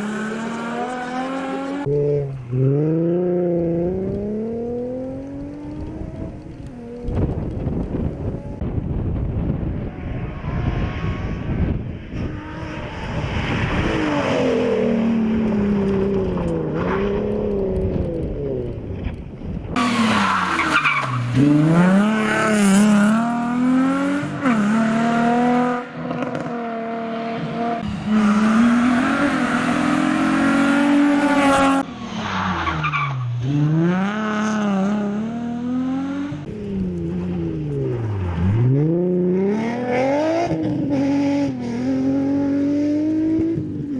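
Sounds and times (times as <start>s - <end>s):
rally car engine revving: 0.0s - 19.2s, 19.8s - 43.9s.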